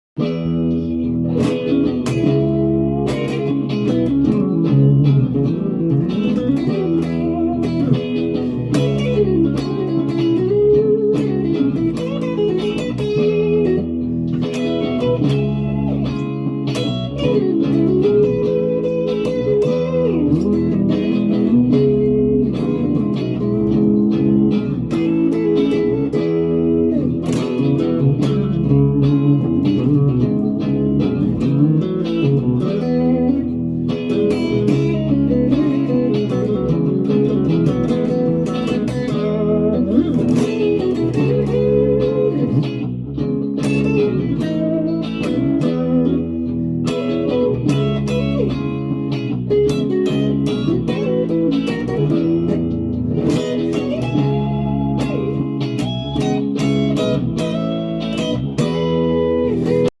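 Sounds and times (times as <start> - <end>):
electric guitar playing: 0.1 - 60.0.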